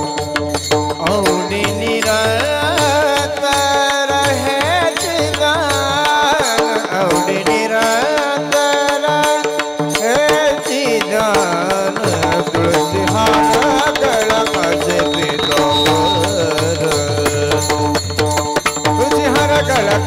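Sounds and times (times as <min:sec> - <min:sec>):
hand drum rhythm: 0:00.0 - 0:20.0.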